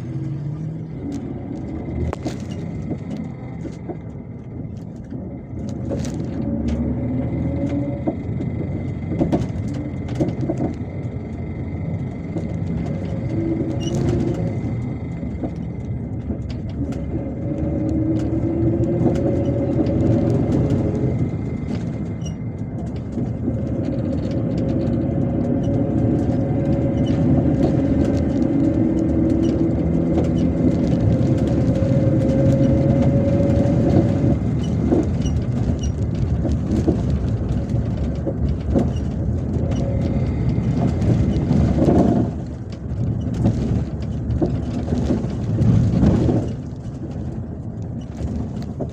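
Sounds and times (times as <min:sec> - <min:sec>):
bus engine running: 0:00.0 - 0:48.9
road rumble: 0:00.0 - 0:48.9.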